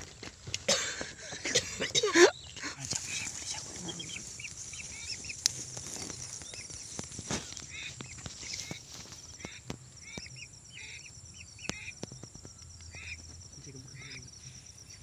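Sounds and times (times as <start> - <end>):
high insect trill: 0.0 - 15.0
ducks whistling calls: 2.1 - 15.0.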